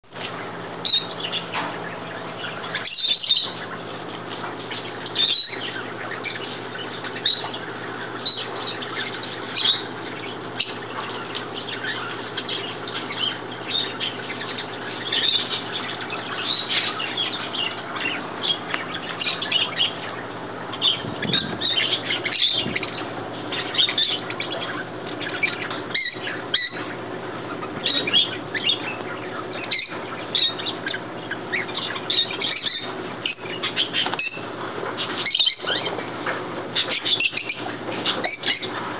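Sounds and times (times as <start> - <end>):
birds chirping: 0.0 - 38.9
steady low hum: 0.1 - 38.9.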